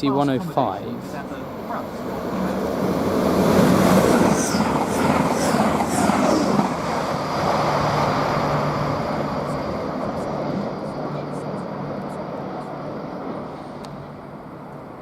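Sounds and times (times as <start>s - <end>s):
wheels squealing on rails: 0.0s - 14.2s
diesel train passing: 0.0s - 15.0s.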